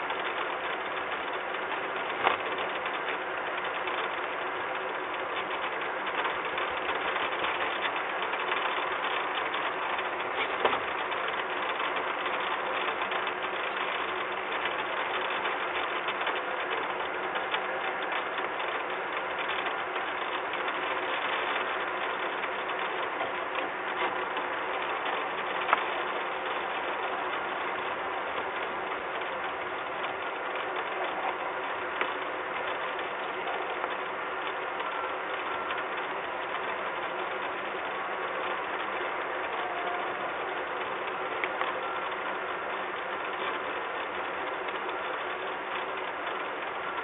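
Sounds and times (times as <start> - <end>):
machinery drone: 0.0 - 47.0.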